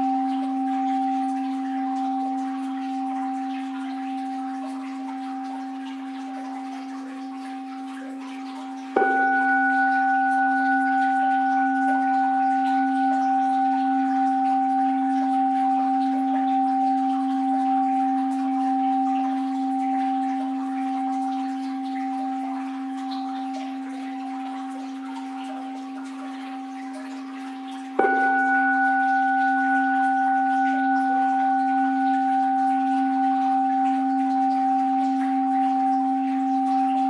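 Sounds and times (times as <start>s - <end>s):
bowl bell ringing: 0.0s - 37.0s
flowing water: 0.0s - 37.0s.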